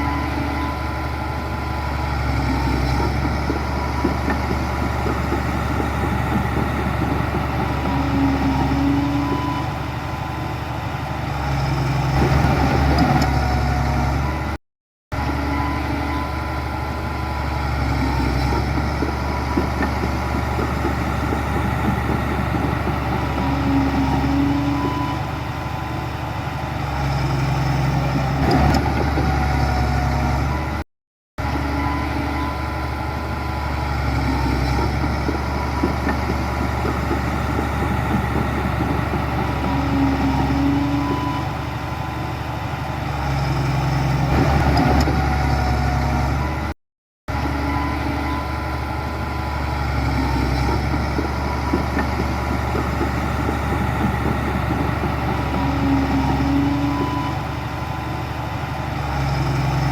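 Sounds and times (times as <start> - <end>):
heavy diesel engine running: 0.0 - 30.8, 31.4 - 59.9.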